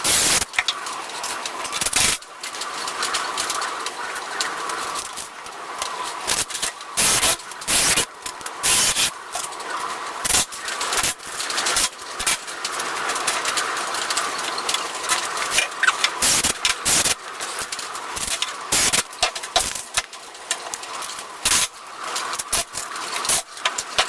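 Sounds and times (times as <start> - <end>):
steady background hiss: 0.0 - 24.0.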